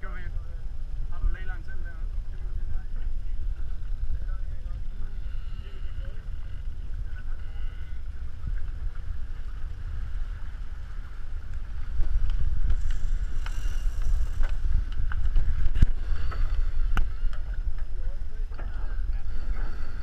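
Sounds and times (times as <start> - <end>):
water rushing along hulls: 0.0 - 20.0
wind buffeting microphone: 0.0 - 20.0.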